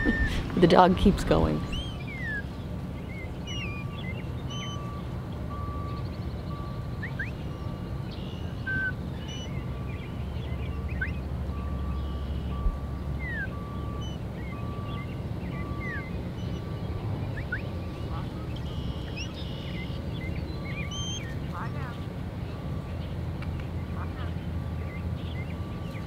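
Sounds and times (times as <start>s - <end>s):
low outdoor rumble: 0.0s - 26.0s
wild birds singing: 0.0s - 26.0s.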